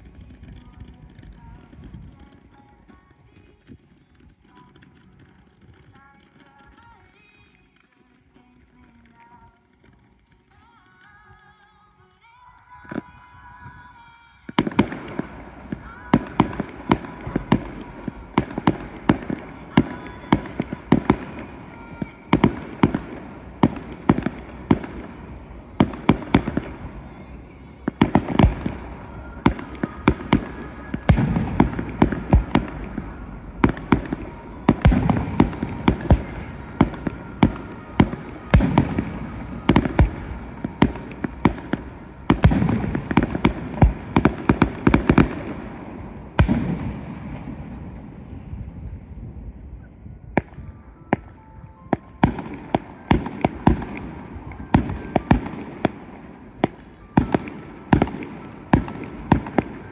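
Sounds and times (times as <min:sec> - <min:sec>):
fireworks bangs: 0:00.0 - 0:11.5, 0:12.8 - 0:59.9.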